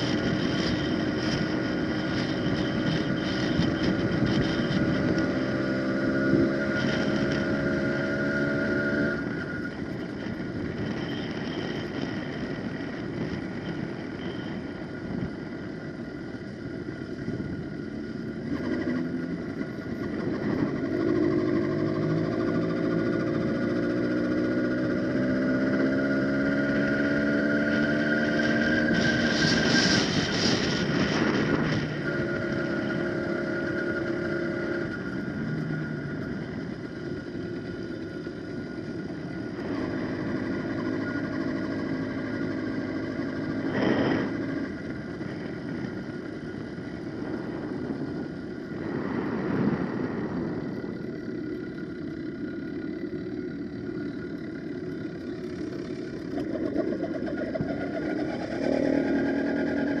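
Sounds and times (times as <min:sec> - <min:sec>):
rushes of noise: 0:00.0 - 1:00.0
two-stroke engine running: 0:00.0 - 1:00.0.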